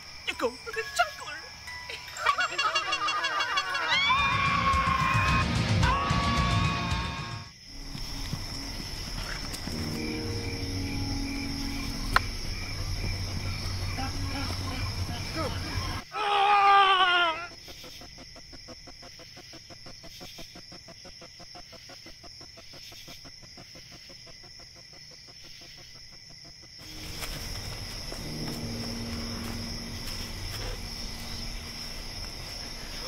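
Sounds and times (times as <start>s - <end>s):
insect chirring: 0.0s - 4.3s, 7.5s - 33.0s.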